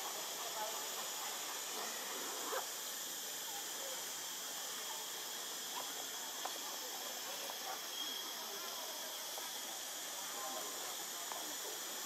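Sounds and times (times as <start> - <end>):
outdoor ambience hiss: 0.0 - 12.0.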